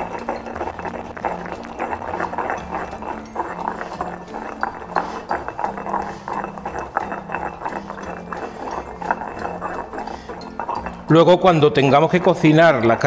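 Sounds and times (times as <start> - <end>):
stone pestle grinding in mortar: 0.0 - 13.0.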